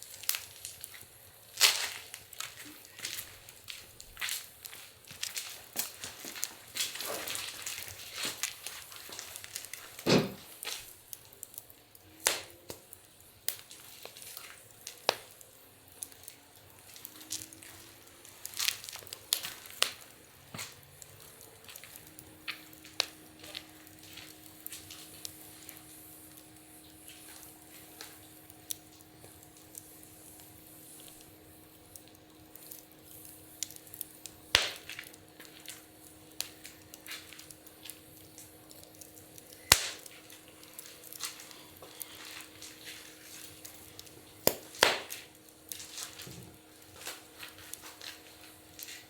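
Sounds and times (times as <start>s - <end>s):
faint steady hum: 0.0s - 49.0s
wood fire crackling and popping: 0.0s - 49.0s.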